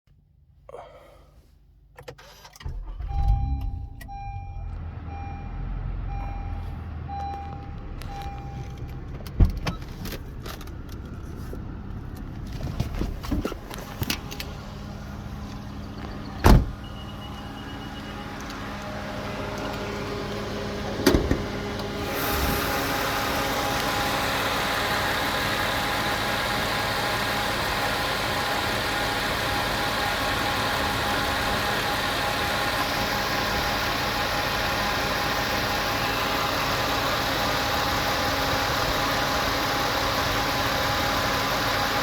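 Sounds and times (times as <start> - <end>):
car engine starting and idling: 1.4 - 42.0.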